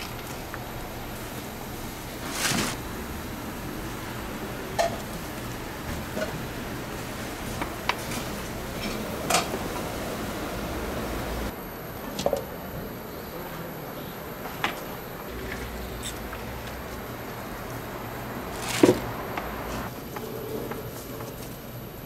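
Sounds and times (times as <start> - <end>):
kitchen background noise: 0.0 - 21.8.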